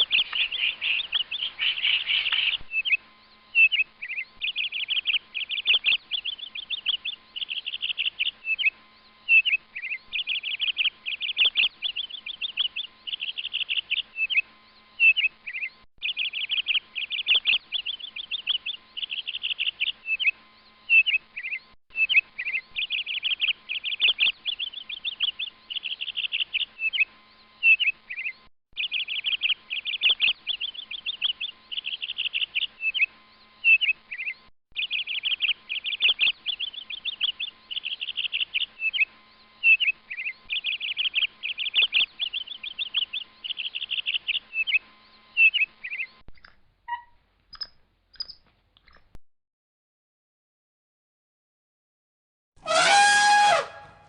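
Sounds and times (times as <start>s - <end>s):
songbird chirps and trills: 0.0s - 49.2s.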